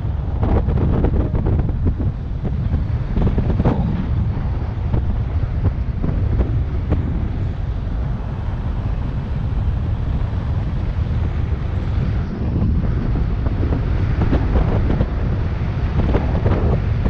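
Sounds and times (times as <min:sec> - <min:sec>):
wind blasting across microphone: 0:00.0 - 0:17.0.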